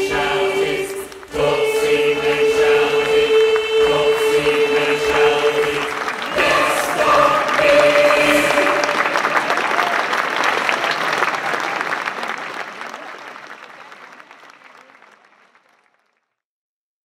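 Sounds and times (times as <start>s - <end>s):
audience clapping: 0.0s - 16.4s.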